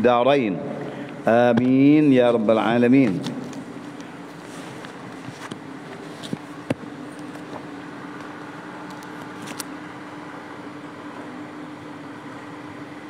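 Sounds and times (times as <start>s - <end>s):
mechanical room hum: 0.0s - 13.0s.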